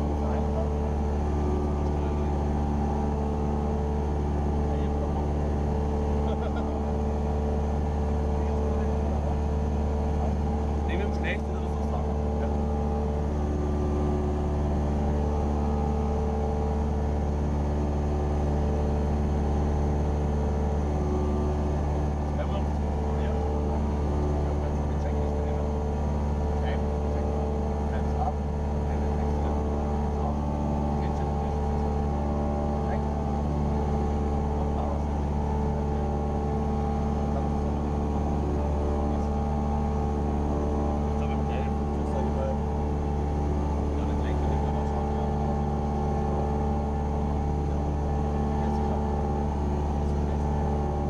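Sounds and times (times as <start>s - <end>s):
airplane engine and propeller in cabin: 0.0s - 51.0s.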